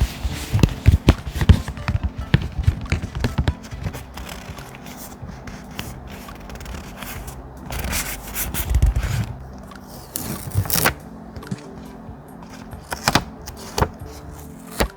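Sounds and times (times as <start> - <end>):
thick paper rubbing: 0.0 - 14.9.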